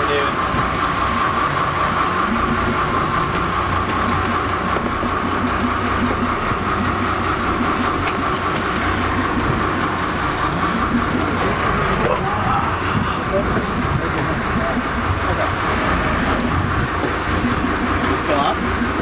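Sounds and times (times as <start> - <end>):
boat engine running: 0.0 - 19.0
wake churning: 0.0 - 19.0.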